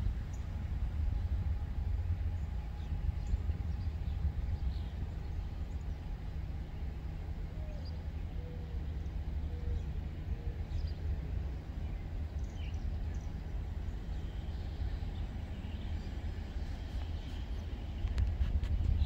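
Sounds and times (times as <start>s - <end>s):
birds chirping: 2.4s - 18.2s.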